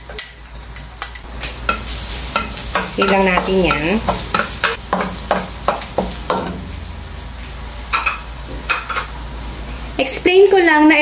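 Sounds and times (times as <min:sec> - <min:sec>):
garlic sizzling in hot oil: 0:01.2 - 0:11.0.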